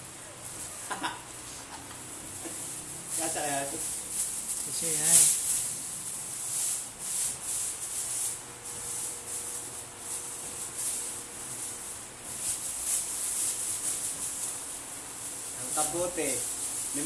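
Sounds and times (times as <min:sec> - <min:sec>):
plastic bag crinkling: 0:02.0 - 0:17.0.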